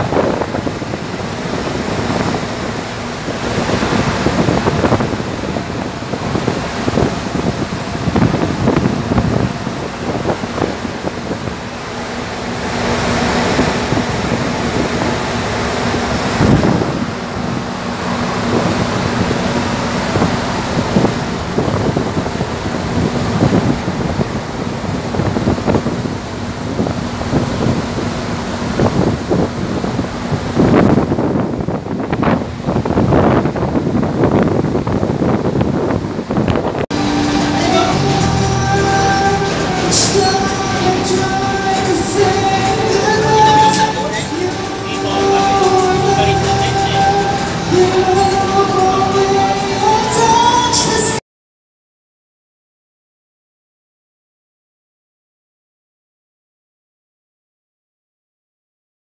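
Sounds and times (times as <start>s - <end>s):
wind buffeting microphone: 0.0s - 51.1s
low ship hum: 0.0s - 51.2s
rushing water of ship wake: 0.0s - 51.2s.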